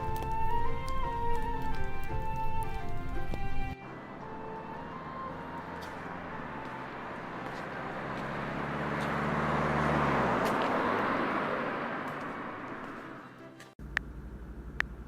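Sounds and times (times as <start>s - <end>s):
vehicle driving past: 0.0s - 13.5s.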